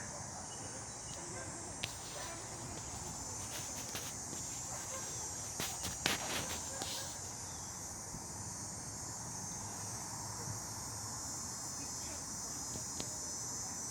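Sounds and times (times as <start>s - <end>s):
insects buzzing chorus: 0.0s - 13.9s.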